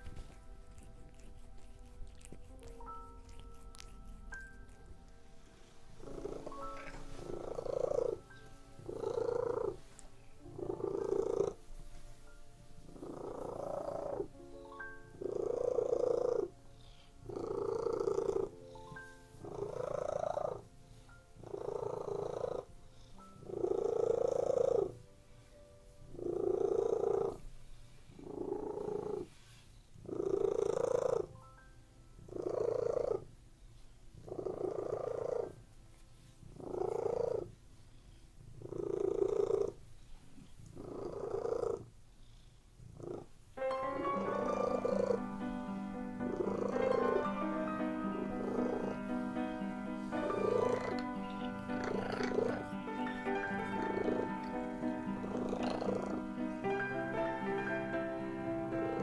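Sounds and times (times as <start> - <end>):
soft background music: 0.0 - 41.9, 42.9 - 59.0
cat purring: 0.0 - 59.0.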